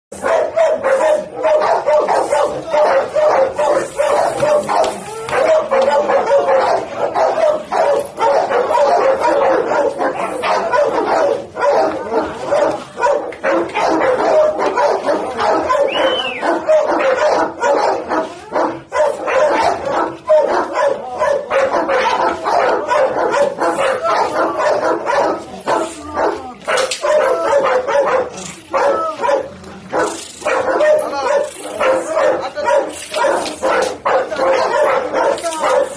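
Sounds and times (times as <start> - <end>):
dog barking: 0.1 - 35.9.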